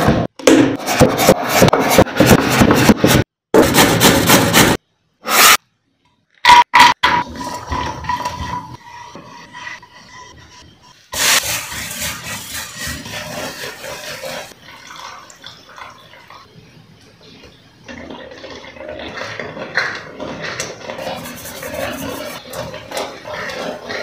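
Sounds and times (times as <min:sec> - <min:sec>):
spatula scraping pan: 0:00.8 - 0:05.6, 0:06.5 - 0:16.5, 0:17.9 - 0:24.0.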